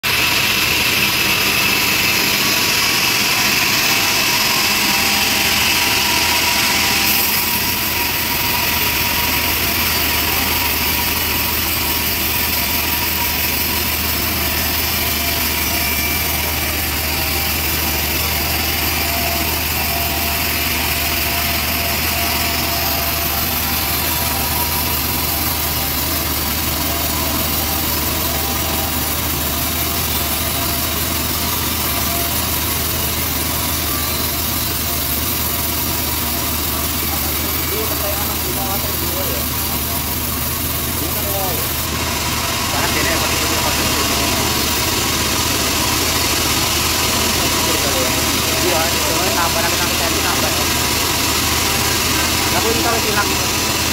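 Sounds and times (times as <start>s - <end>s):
bandsaw cutting through log: 0.0s - 53.9s.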